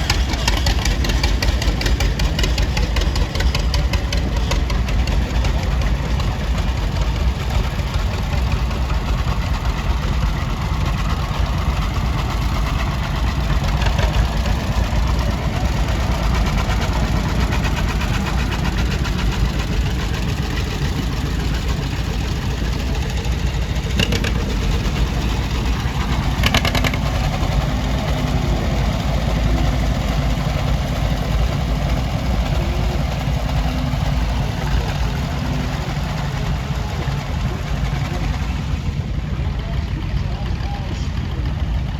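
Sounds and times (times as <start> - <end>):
tractor engines rumbling: 0.0 - 41.9.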